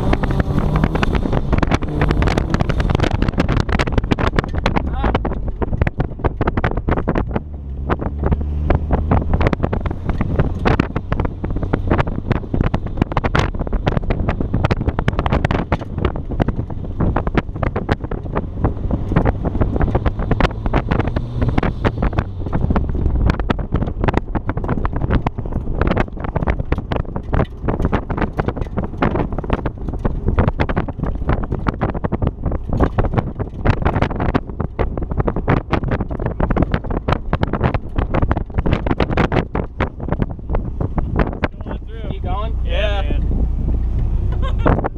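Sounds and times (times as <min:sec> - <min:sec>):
car engine running: 0:00.0 - 0:44.9
wind buffeting microphone: 0:00.0 - 0:44.9.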